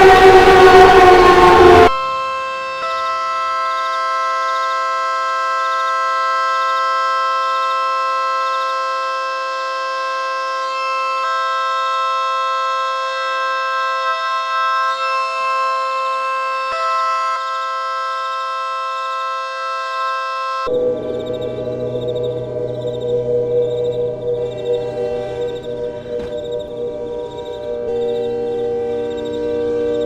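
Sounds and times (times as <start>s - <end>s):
warning siren steady tone: 0.0s - 30.0s.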